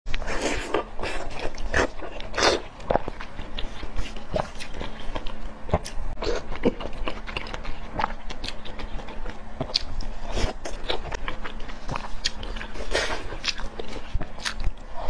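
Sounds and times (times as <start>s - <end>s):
person chewing with wet smacks: 0.1s - 14.9s.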